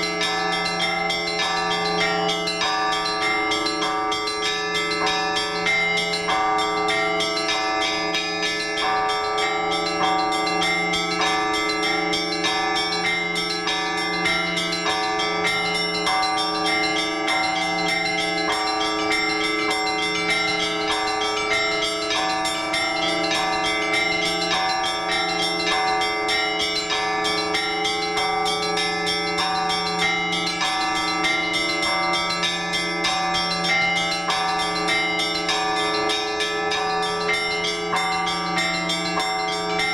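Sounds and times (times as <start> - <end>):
low bell steady beat: 0.0 - 39.9
small bells struck rapidly: 0.0 - 39.9.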